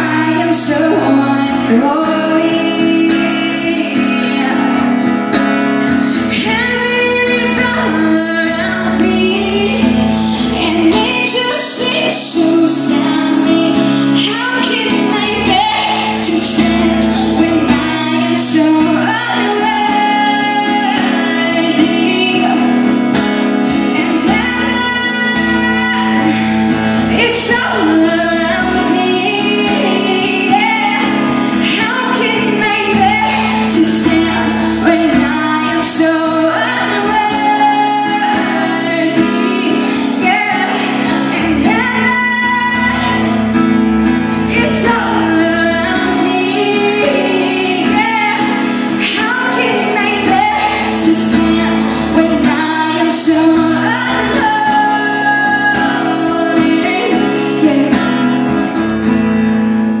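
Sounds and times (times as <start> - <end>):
woman singing: 0.0 - 59.4
instrumental backing: 0.0 - 60.0.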